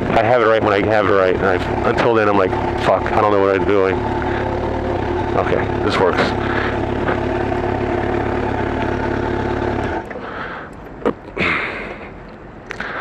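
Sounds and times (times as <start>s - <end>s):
motorcycle engine idling: 0.0s - 11.7s.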